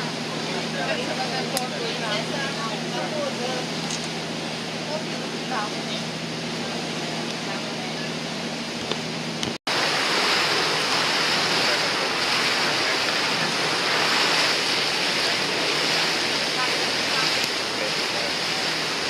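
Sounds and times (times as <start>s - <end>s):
low engine hum: 0.0s - 19.0s
wind and sea water rushing: 0.0s - 19.0s.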